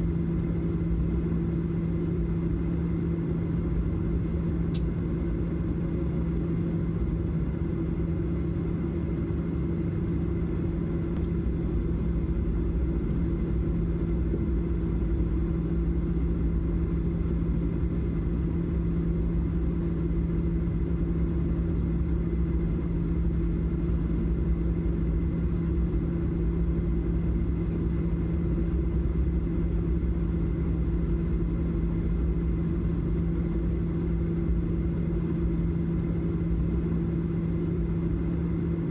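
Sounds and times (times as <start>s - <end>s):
airliner cabin engine hum: 0.0s - 38.9s.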